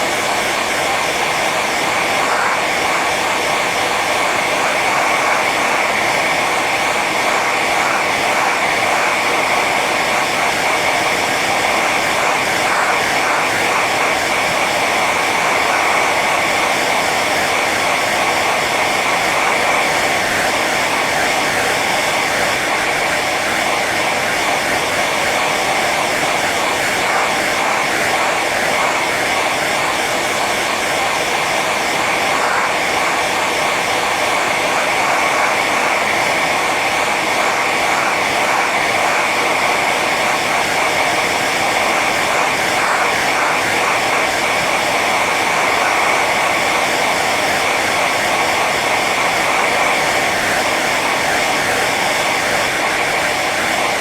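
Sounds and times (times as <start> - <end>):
hair dryer blowing air: 0.0 - 54.0
high fan motor whine: 0.0 - 54.0.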